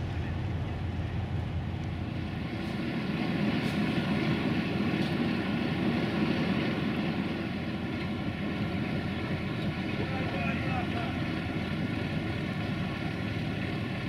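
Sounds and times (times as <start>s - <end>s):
engine noise: 0.0s - 14.0s.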